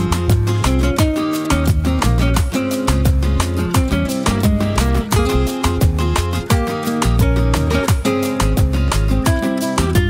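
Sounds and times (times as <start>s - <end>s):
upbeat latin dance music: 0.0s - 10.0s.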